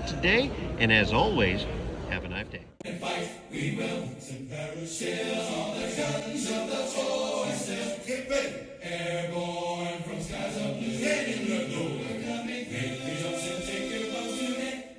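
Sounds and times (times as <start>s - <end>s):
choir chanting: 2.8s - 14.9s.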